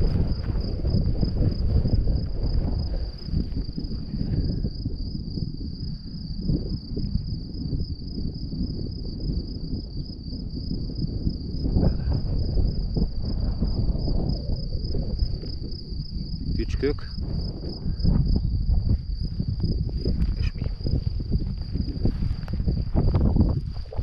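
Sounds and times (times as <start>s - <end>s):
insects trilling: 0.0s - 24.0s
wind buffeting microphone: 0.0s - 24.0s.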